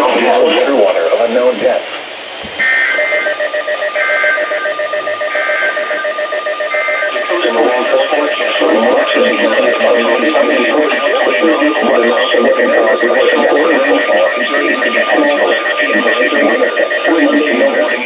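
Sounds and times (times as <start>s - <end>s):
steady electronic alert tones: 2.9s - 18.0s
warbling data bursts: 2.9s - 18.0s.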